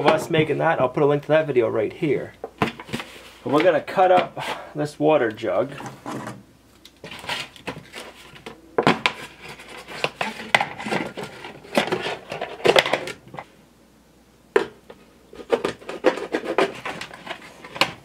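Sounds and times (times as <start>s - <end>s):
plastic jug crackling and scraping: 2.2s - 13.5s, 14.5s - 18.0s.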